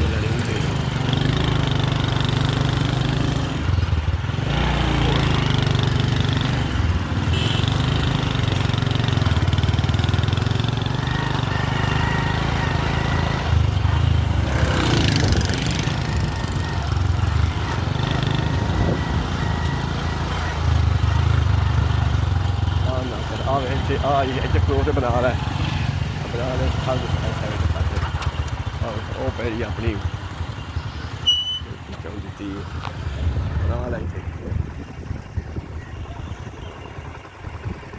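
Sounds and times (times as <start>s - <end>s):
small engine running: 0.0s - 37.9s.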